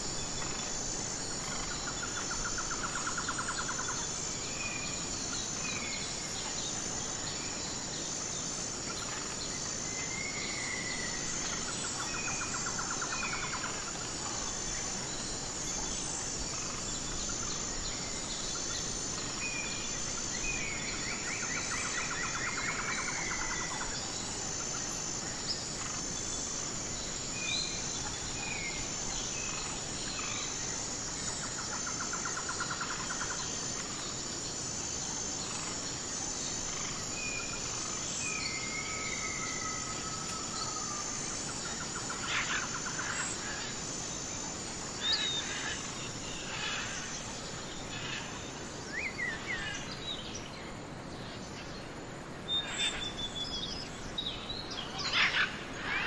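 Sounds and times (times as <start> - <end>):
background hiss: 0.0 - 56.0
insects trilling: 0.0 - 56.0.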